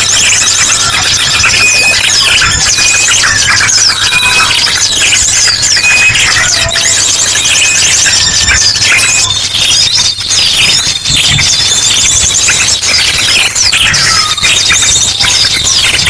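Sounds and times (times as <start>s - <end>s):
bird trilled calls: 0.0s - 16.0s
small birds chattering and chirping: 0.0s - 16.0s.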